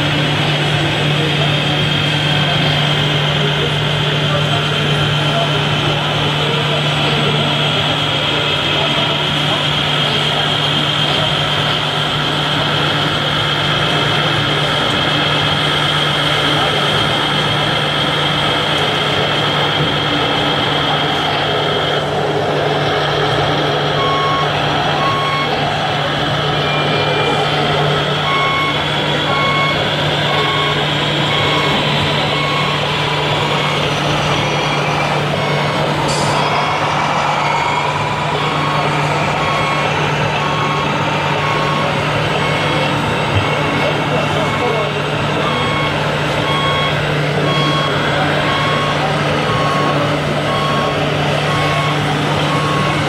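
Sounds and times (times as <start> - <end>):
reversing beeper: 0.0 - 53.0.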